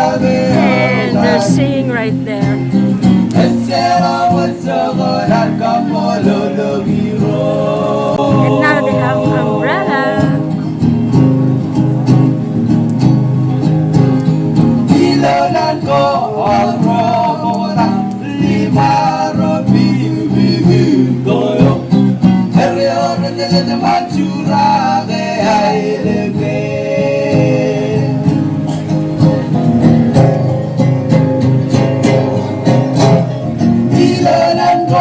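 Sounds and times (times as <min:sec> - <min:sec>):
group of voices singing: 0:00.0 - 0:10.7, 0:14.6 - 0:29.0, 0:31.7 - 0:35.0
strummed acoustic guitar: 0:00.0 - 0:35.0.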